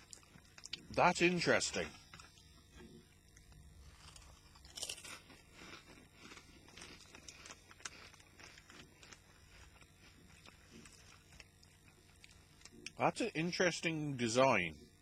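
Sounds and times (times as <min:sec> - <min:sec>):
chewing crisps: 0:00.0 - 0:13.0.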